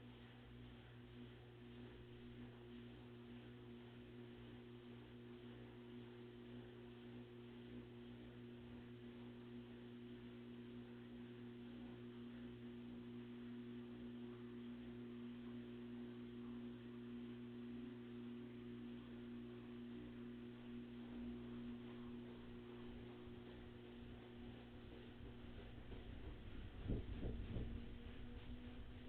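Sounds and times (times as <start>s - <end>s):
washing machine humming: 0.0s - 29.0s.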